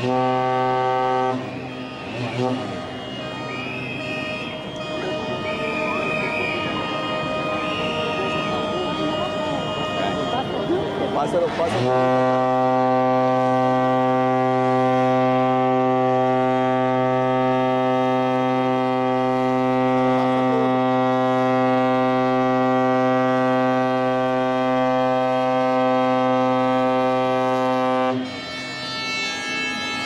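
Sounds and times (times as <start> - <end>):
ship's horn blast: 0.0 - 30.0.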